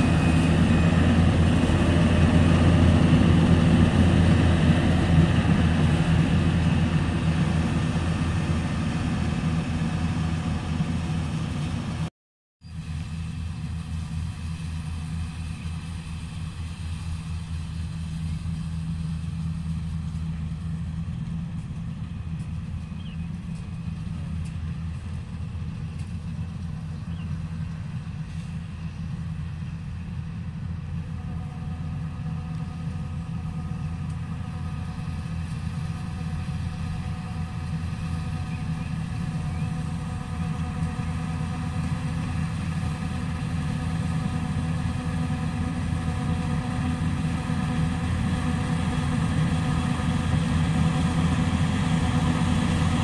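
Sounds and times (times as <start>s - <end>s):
combine harvester engine running: 0.0s - 12.1s, 12.7s - 53.0s.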